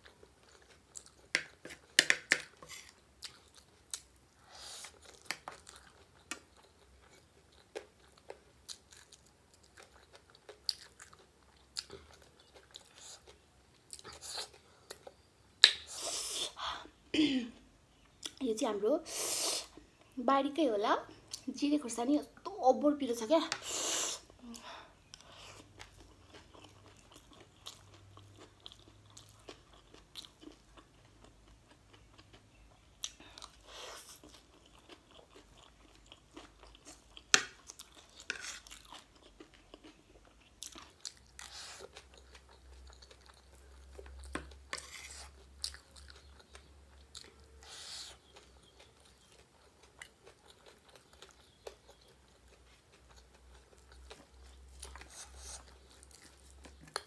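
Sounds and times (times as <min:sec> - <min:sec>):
chewing and crunching food: 0:00.0 - 0:15.8, 0:24.4 - 0:57.0.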